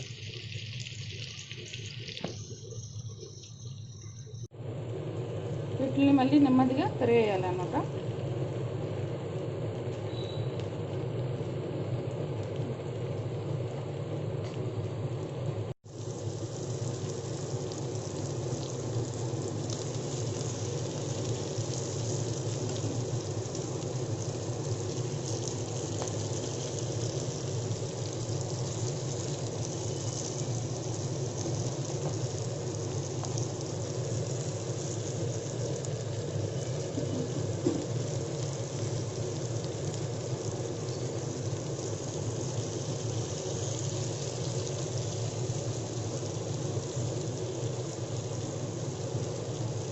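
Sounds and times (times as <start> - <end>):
fish frying in oil: 0.0 - 49.9.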